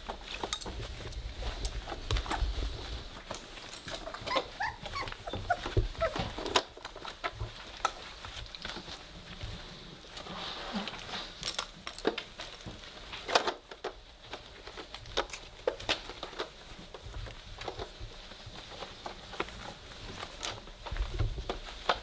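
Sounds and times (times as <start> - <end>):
puppy paws scratching on blanket: 0.0 - 22.0.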